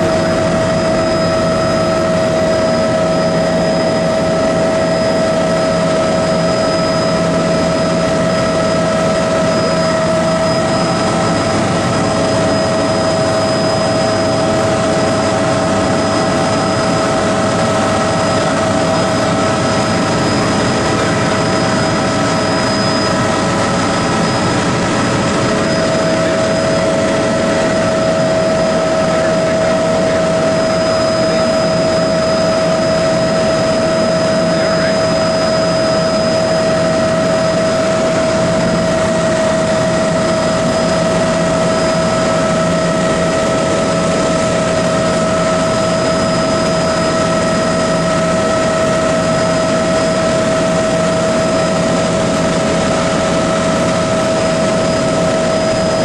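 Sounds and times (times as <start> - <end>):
aircraft engine and airflow drone: 0.0 - 56.0
constant whine: 0.0 - 56.0.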